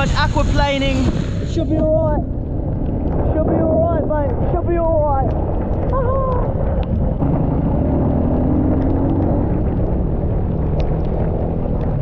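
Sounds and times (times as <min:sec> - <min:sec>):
wind noise: 0:00.0 - 0:12.0
dirt bike engine rumble: 0:00.8 - 0:12.0.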